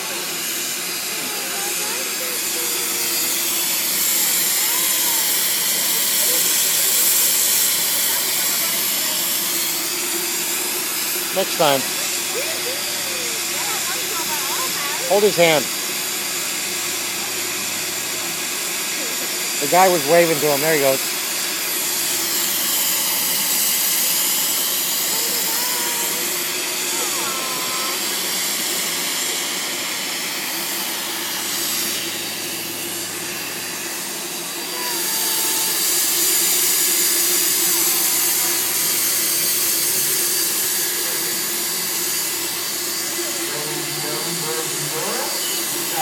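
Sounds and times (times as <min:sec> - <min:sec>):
steam locomotive hissing: 0:00.0 - 0:46.0.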